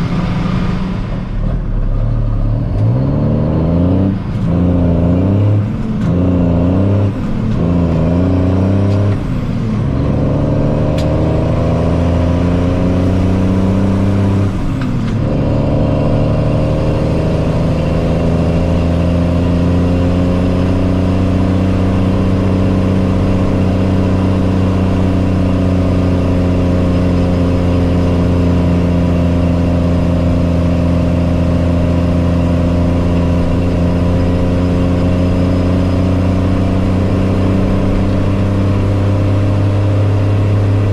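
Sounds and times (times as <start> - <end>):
truck engine shifting gears: 0.0 - 40.9.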